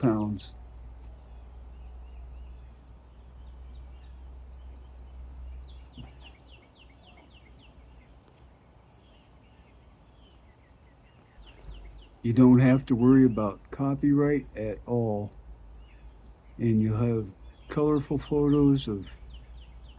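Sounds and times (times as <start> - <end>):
songbirds chirping and singing: 0.0 - 19.9.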